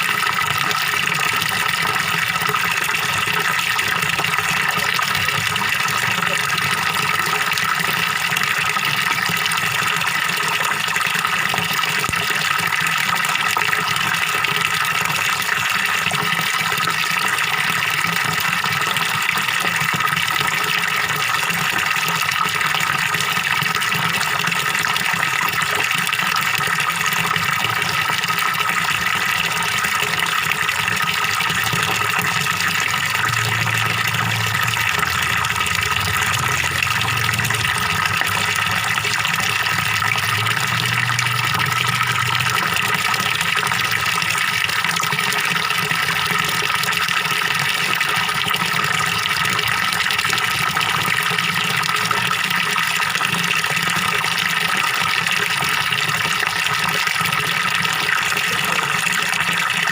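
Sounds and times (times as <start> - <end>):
small waterfall into pond: 0.0 - 59.9.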